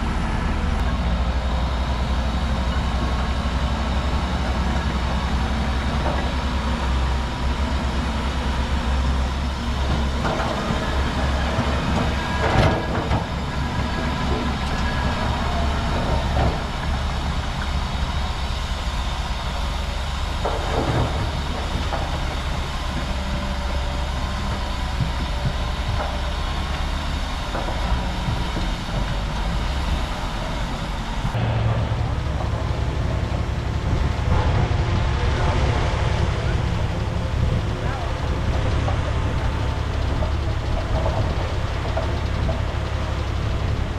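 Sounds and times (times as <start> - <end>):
bulldozer diesel engine running: 0.0 - 43.9
steel tracks clattering: 0.0 - 43.9.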